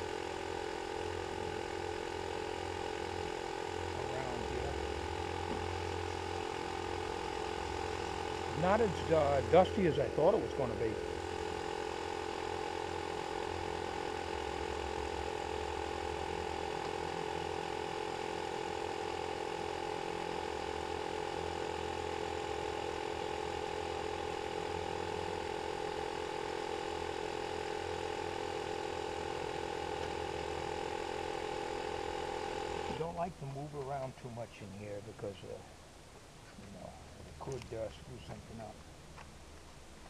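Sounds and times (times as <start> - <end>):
air compressor running: 0.0 - 35.8.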